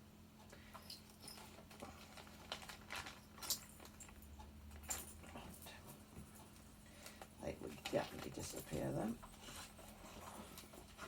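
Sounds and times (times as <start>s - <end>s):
small objects clicking and rustling: 0.6s - 11.0s.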